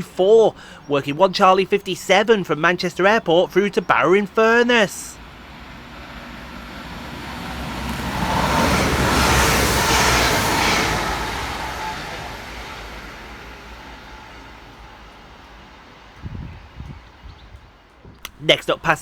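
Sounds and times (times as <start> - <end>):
diesel train passing fast: 0.0 - 19.0.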